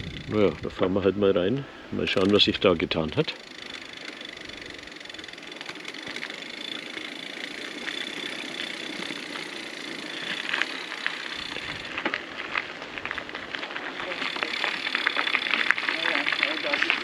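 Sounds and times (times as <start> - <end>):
bicycle tyres rolling on gravel: 0.0 - 17.0
gravel crunching: 0.0 - 17.0.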